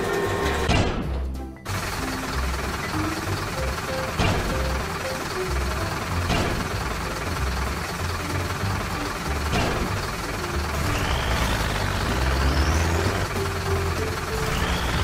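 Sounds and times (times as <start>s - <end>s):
heavy vehicle engine rumble: 0.0s - 15.0s
sharp hits: 0.0s - 15.0s.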